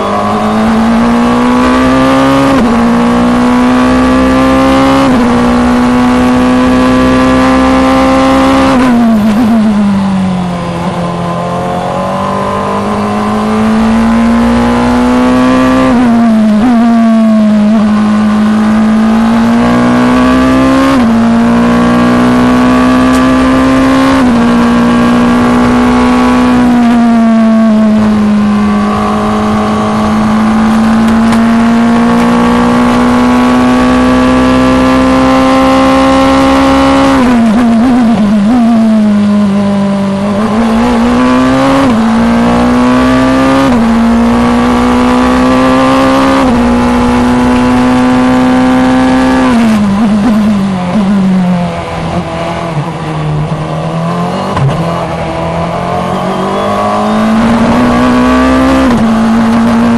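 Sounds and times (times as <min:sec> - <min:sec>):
racing car engine at high revs: 0:00.0 - 0:59.9.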